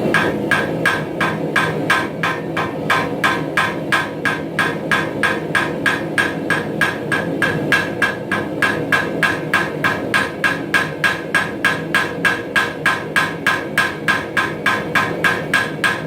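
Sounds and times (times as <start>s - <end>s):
hammer forging on anvil: 0.0s - 16.0s.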